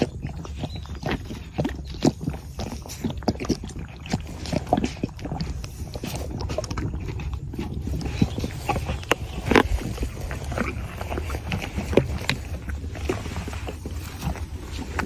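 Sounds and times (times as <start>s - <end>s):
camel sucking and gulping: 0.0s - 15.0s
wind rumble on microphone: 0.0s - 15.0s
wet lip smacks and clicks: 0.4s - 13.5s.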